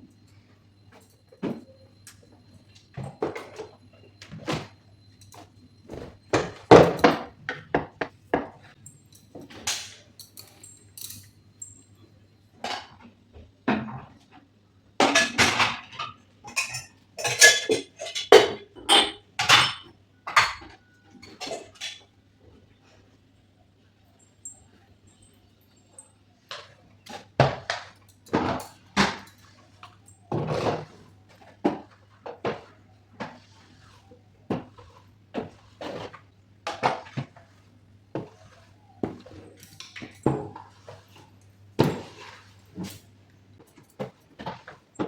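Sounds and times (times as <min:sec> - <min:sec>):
dishes and utensils clinking: 0:00.3 - 0:12.0, 0:15.0 - 0:22.1, 0:24.4 - 0:37.6, 0:38.2 - 0:45.0.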